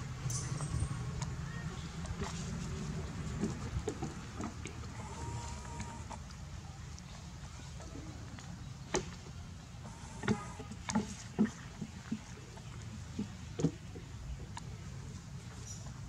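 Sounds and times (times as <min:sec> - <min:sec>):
steady low background hum: 0:00.0 - 0:16.0.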